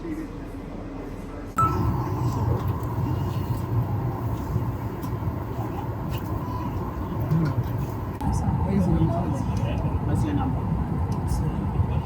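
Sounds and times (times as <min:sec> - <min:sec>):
low machinery rumble: 0:01.6 - 0:12.0.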